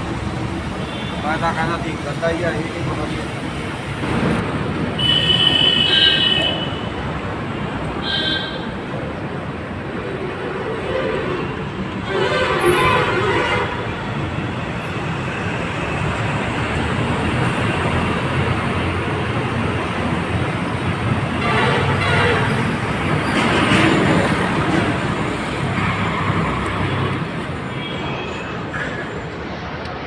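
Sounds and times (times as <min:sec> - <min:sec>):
traffic noise: 0:00.0 - 0:30.0.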